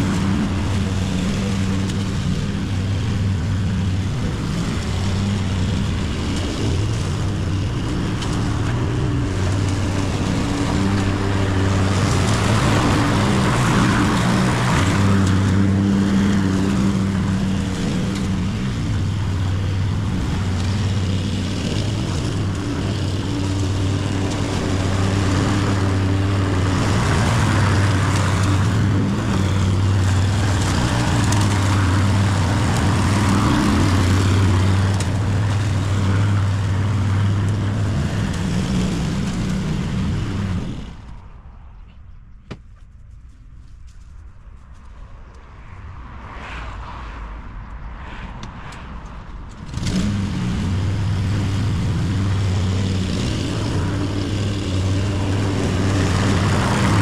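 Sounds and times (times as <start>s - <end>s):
lawn mower cutting grass: 0.0s - 41.2s, 49.5s - 57.0s.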